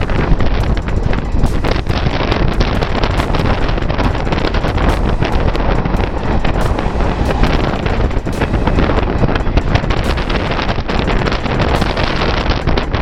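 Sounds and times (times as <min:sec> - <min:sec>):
moving train running noise: 0:00.0 - 0:13.0
wind buffeting microphone: 0:00.0 - 0:13.0.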